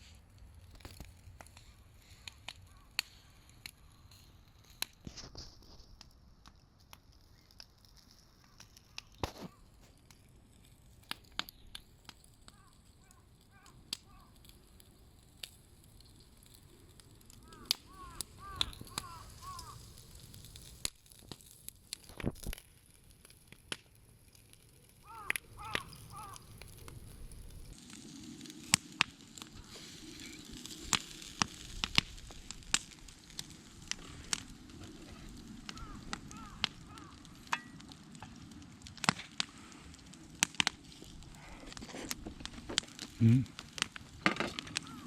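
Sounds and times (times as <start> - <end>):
campfire crackling and popping: 0.0 - 45.0
meat sizzling on a grill: 0.7 - 45.0.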